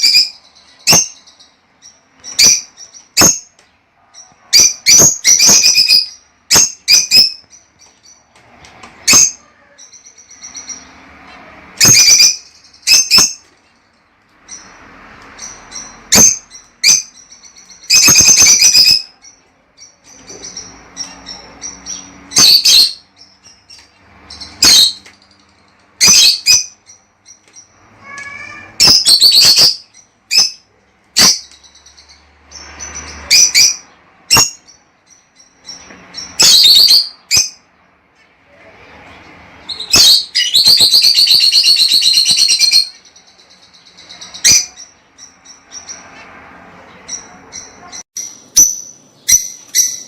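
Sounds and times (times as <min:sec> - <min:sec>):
lovebirds chirping and squawking: 0:00.0 - 0:50.0.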